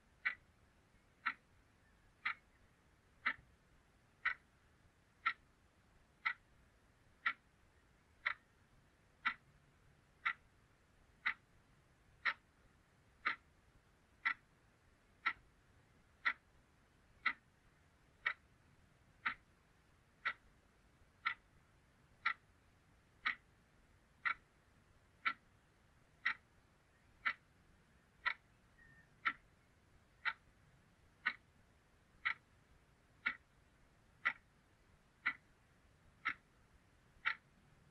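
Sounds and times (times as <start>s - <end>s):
clock ticking: 0.1s - 37.9s.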